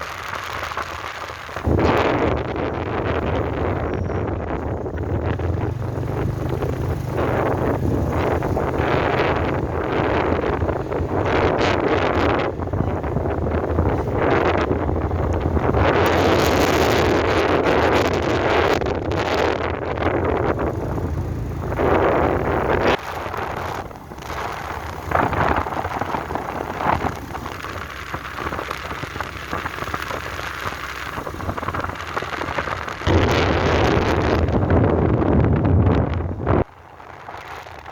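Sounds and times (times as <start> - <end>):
motorbike engine running: 0.0 - 37.0
wind buffeting microphone: 0.0 - 37.9.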